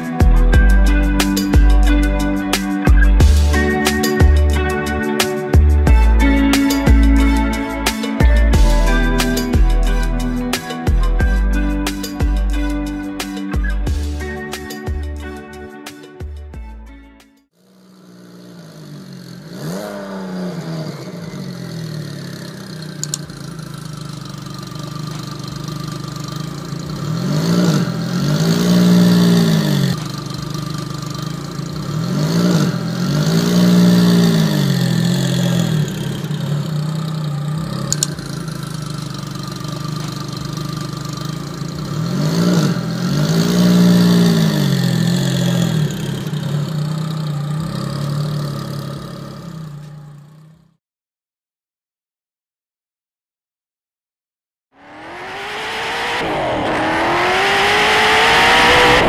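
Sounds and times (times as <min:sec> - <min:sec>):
car engine idling and revving: 0:00.0 - 0:50.8, 0:54.8 - 0:59.0.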